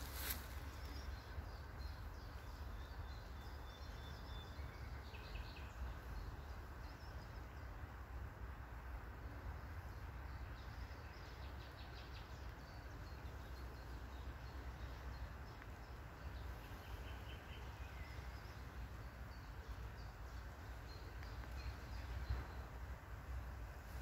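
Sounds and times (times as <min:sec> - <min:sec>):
faint distant birdsong: 0:00.0 - 0:24.0
low outdoor rumble: 0:00.0 - 0:24.0.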